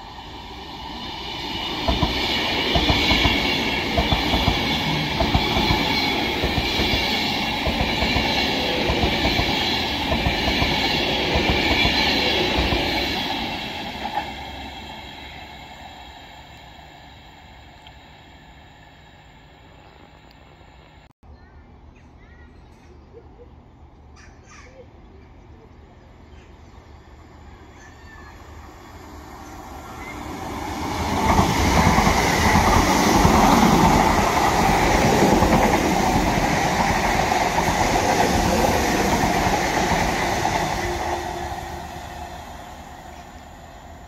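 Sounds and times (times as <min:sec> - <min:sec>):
electric train passing: 0:00.0 - 0:21.1, 0:26.8 - 0:44.0.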